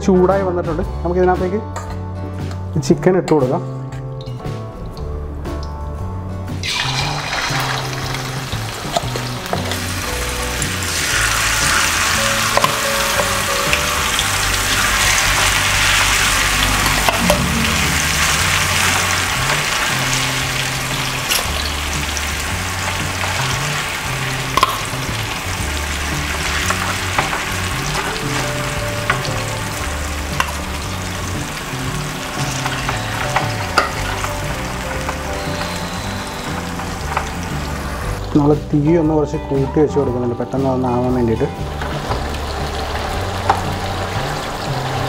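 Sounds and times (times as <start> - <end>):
chicken deep-frying sizzle: 6.6 - 38.6, 40.8 - 45.0.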